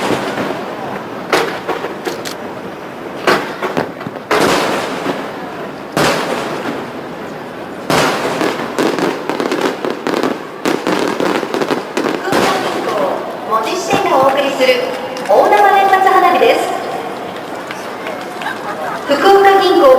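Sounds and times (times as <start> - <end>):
fireworks booming: 0.0 - 19.9
fireworks crackling: 0.0 - 19.9.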